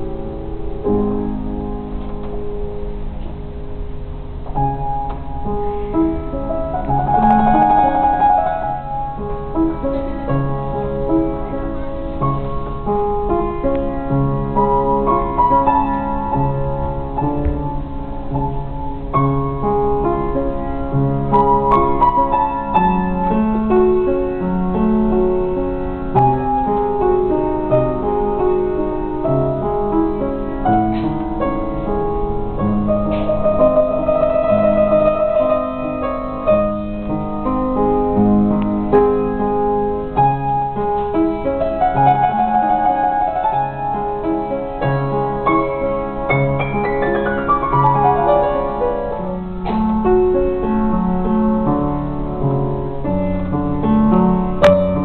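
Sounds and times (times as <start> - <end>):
solo piano piece: 0.0 - 55.0.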